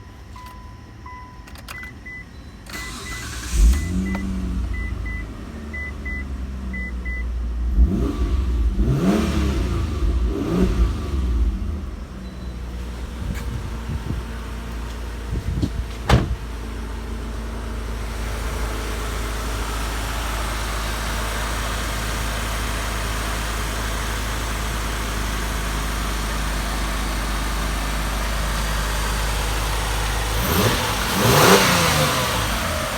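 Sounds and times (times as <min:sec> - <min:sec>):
car engine cranking and idling: 0:00.0 - 0:32.9.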